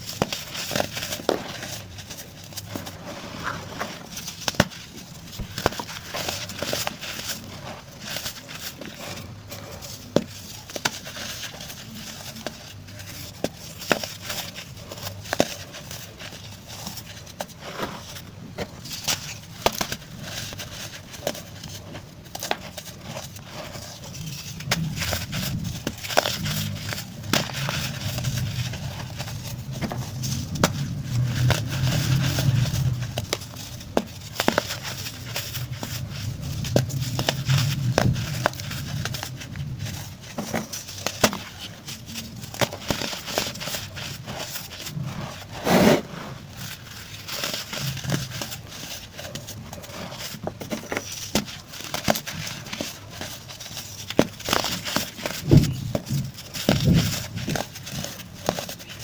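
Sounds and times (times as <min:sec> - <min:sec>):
baking soda crunching: 0:00.0 - 0:59.0.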